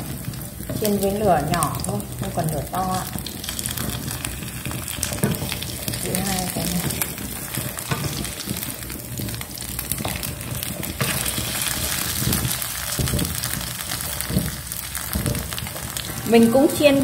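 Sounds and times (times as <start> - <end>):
oil sizzling in a pan: 0.0 - 17.0
wooden spatula scraping and knocking: 0.0 - 17.0.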